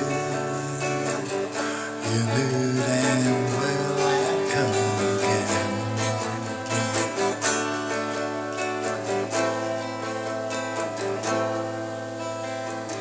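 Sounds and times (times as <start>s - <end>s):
soft rock band instrumental: 0.0s - 13.0s.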